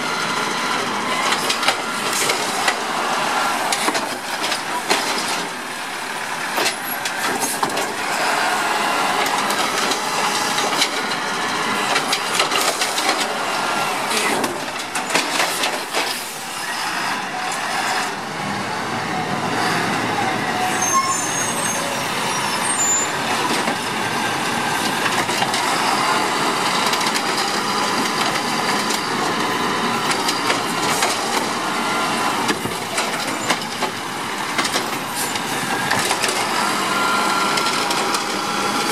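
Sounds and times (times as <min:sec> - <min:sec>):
garbage truck engine running: 0:00.0 - 0:38.9.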